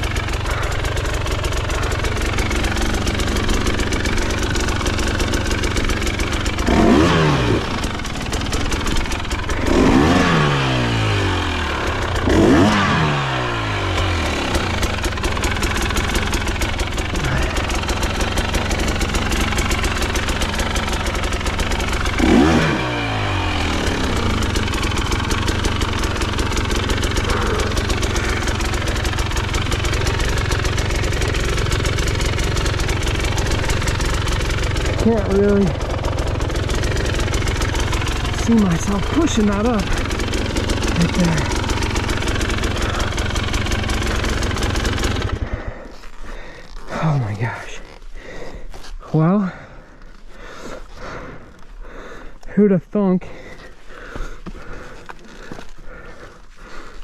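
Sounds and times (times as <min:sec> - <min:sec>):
dirt bike engine idling and revving: 0:00.0 - 0:57.0.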